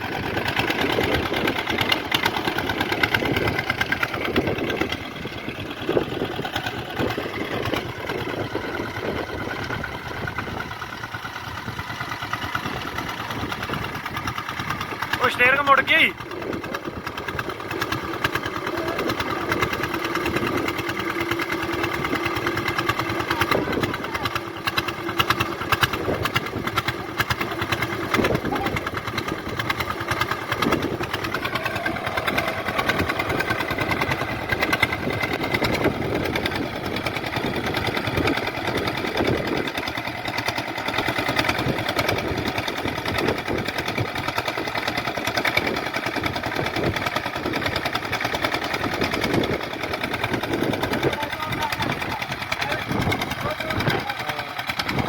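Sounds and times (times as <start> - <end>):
tractor diesel engine knocking: 0.0 - 55.0.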